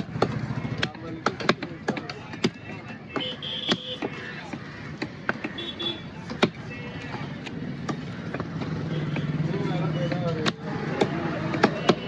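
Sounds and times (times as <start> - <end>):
background chatter: 0.0 - 12.0.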